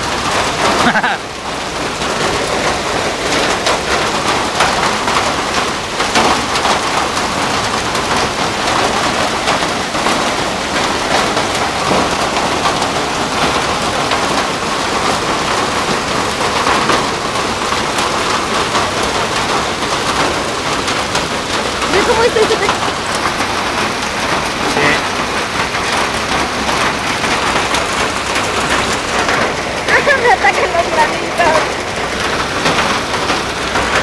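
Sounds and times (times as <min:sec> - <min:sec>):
hail and heavy rain on street: 0:00.0 - 0:34.0.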